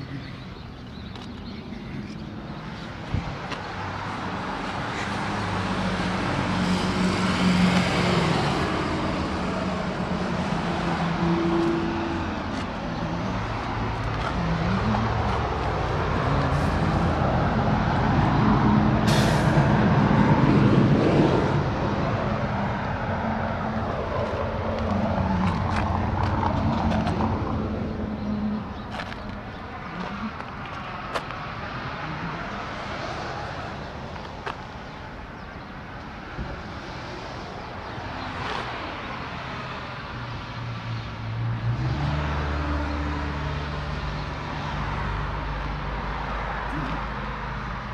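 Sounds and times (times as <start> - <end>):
vehicle engines passing: 0.0 - 47.9.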